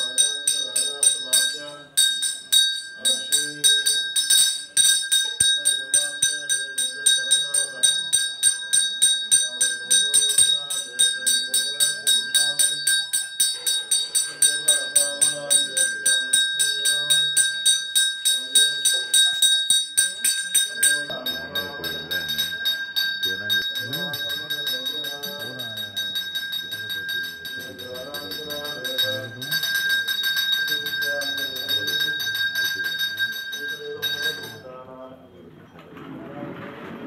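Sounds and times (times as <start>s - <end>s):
hand bell ringing rapidly: 0.0s - 34.6s
faint voices: 0.0s - 37.0s.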